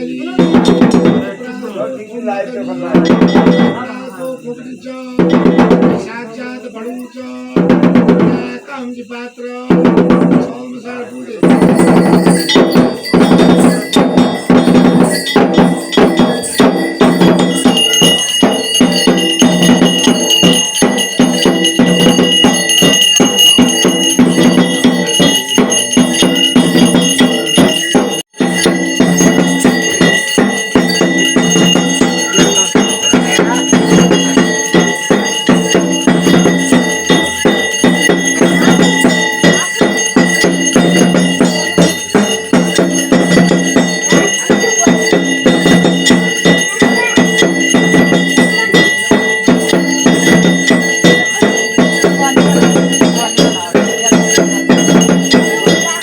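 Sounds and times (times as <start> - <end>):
bell ringing: 0.0 - 56.0
drums beaten rapidly: 0.0 - 56.0.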